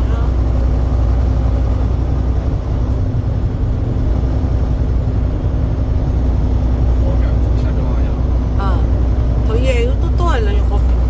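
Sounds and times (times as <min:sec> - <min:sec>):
constant hum: 0:00.0 - 0:11.0
road noise inside cab: 0:00.0 - 0:11.0
truck engine rumble: 0:00.0 - 0:11.0.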